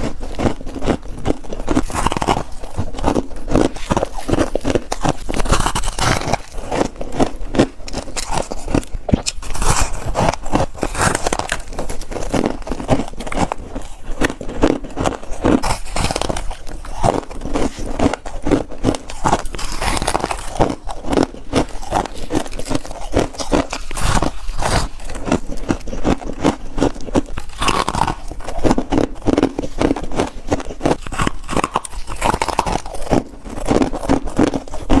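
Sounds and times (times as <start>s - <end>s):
person crunching frost: 0.0s - 35.0s.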